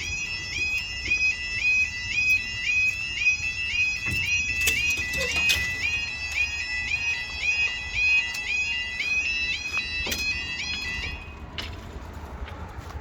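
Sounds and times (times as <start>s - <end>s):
level crossing alarm yodelling: 0.0s - 11.4s.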